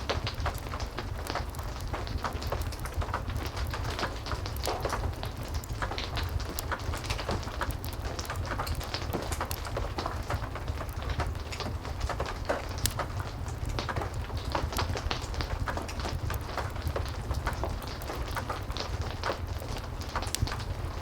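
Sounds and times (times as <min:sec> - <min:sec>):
heavy rain: 0:00.0 - 0:21.0
wood fire crackling and popping: 0:00.0 - 0:21.0.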